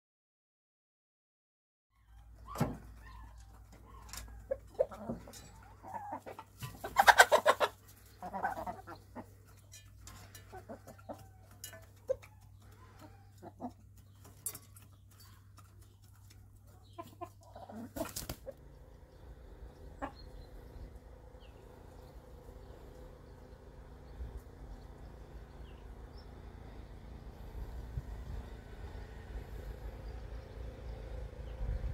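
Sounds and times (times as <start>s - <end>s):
chickens clucking: 2.0s - 28.4s.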